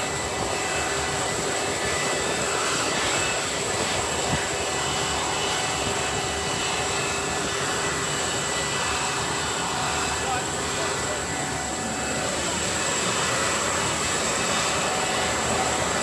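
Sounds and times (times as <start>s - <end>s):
high turbine whine: 0.0s - 16.0s
jet engine rushing noise: 0.0s - 16.0s.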